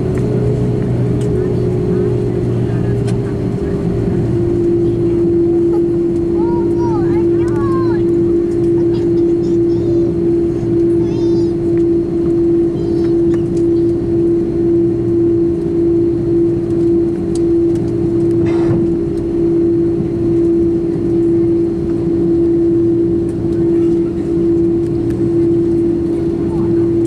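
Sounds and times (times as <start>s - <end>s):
airplane cabin rumble and hum: 0.0s - 27.0s.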